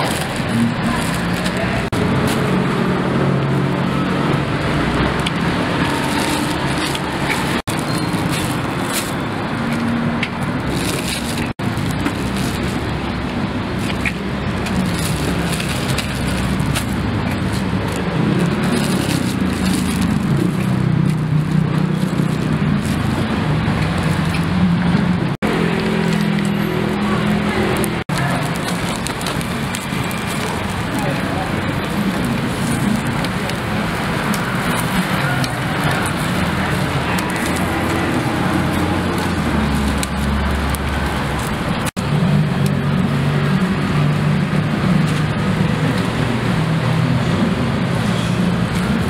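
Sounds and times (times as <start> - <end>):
indistinct voices: 0.0 - 49.0
traffic: 0.0 - 49.0.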